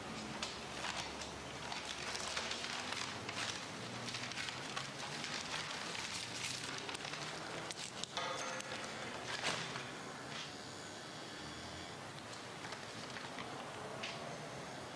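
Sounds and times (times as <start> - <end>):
plastic bag crackling: 0.2 - 10.2, 12.2 - 14.2.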